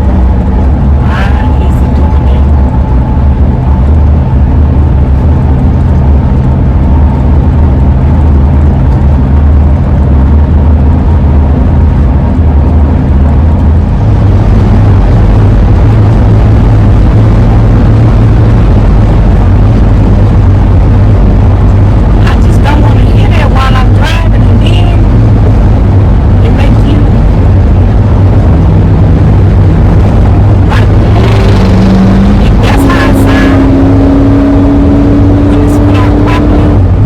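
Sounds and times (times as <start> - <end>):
road noise: 0.0 - 37.0
van engine droning: 0.0 - 37.0.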